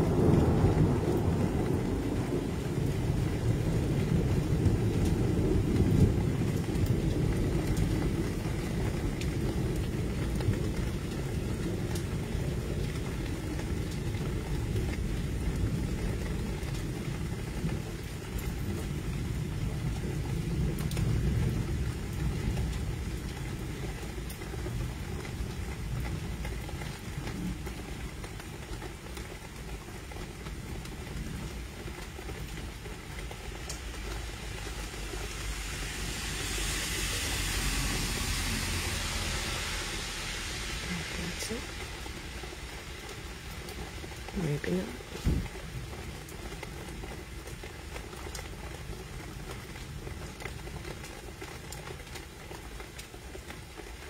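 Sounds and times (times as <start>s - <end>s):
thunder rumble: 0.0s - 47.8s
rain hiss: 0.0s - 54.0s.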